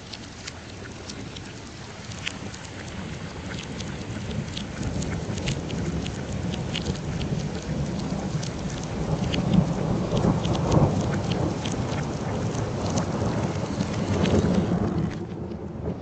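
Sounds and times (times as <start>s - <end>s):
raindrops ticking sharply: 0.0s - 16.0s
steady rain: 0.0s - 16.0s
low thunder rumble: 0.8s - 16.0s.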